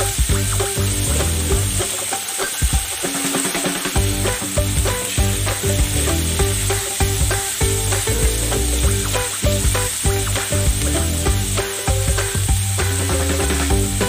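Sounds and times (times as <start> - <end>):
background music with bass line: 0.0 - 14.0
meat sizzling in a pan: 0.0 - 14.0.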